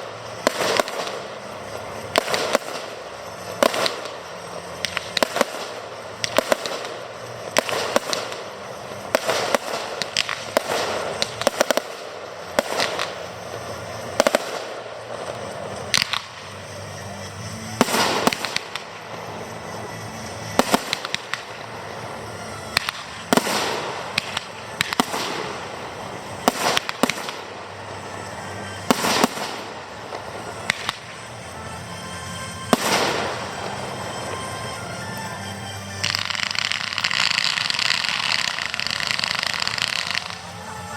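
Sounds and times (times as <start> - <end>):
background music: 0.0 - 40.9
fireworks bursting: 0.0 - 40.9
fireworks crackle: 0.0 - 40.9.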